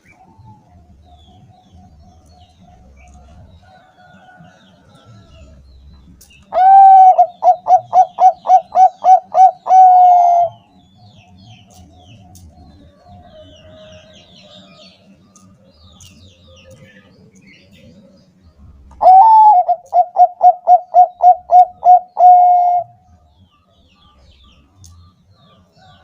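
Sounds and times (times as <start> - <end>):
dove cooing song: 0.0 - 24.6
faint bird chirping: 0.0 - 26.0.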